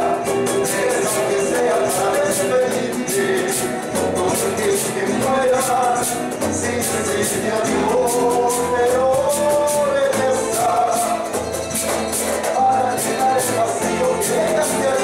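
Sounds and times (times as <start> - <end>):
person singing: 0.0 - 11.6, 12.4 - 15.0
acoustic guitars strumming: 0.0 - 15.0
cajon beat: 0.0 - 15.0.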